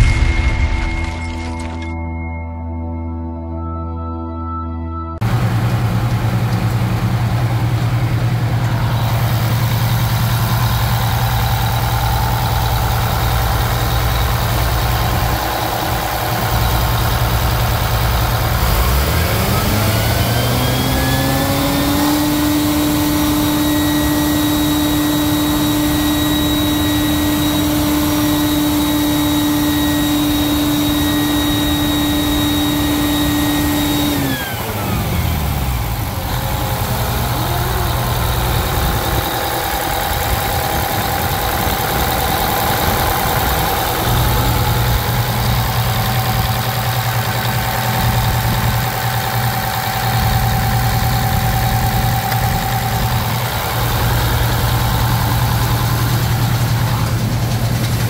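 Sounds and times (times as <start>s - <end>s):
diesel engine revving with whine: 5.2s - 58.0s.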